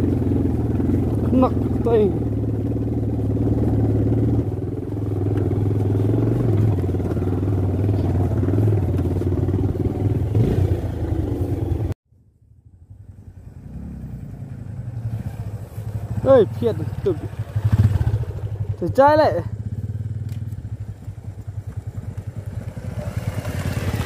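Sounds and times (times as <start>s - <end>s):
motorcycle engine running close up: 0.0s - 12.0s, 12.6s - 24.0s
distant motorcycle approaching: 0.0s - 24.0s.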